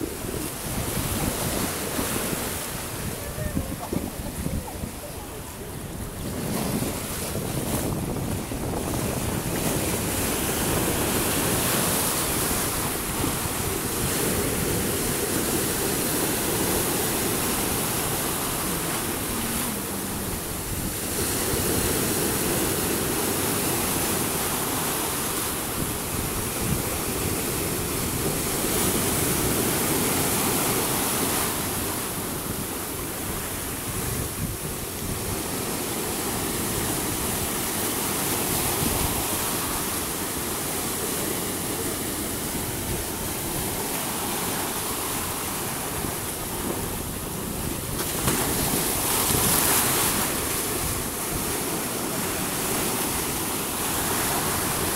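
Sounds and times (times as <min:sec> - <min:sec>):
sea water rushing along boat: 0:00.0 - 0:54.9
wind buffeting microphone: 0:00.0 - 0:54.9.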